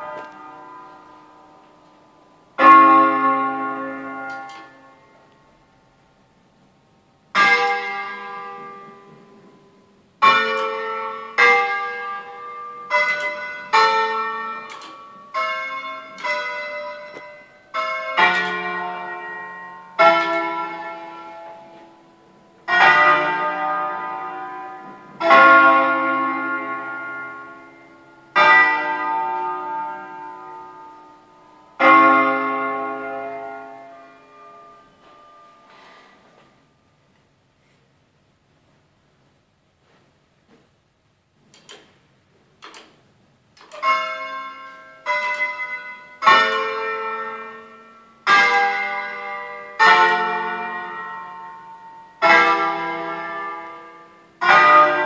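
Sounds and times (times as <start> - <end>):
church bells ringing: 0.0 - 6.2, 7.2 - 36.5, 43.6 - 55.0.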